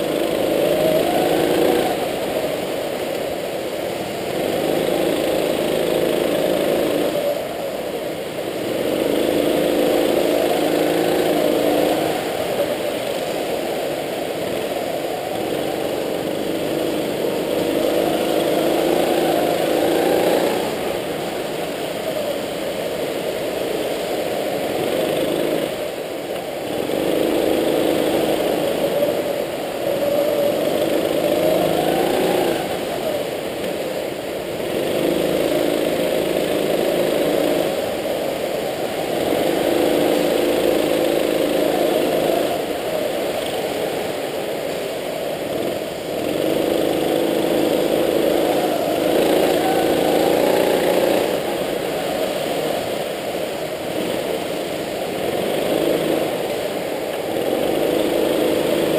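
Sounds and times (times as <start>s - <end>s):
go-kart engine revving: 0.0s - 58.9s.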